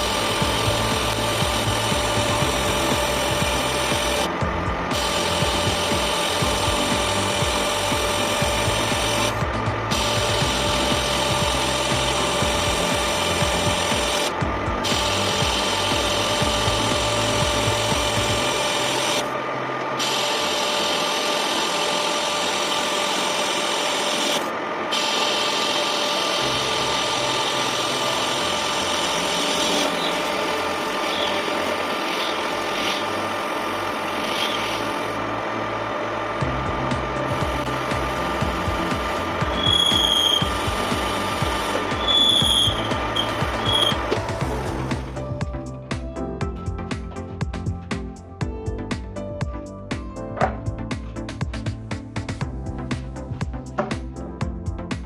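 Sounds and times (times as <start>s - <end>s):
lathe tool scraping metal: 0.0s - 36.4s, 37.0s - 45.2s
lathe machine whine: 0.0s - 46.3s.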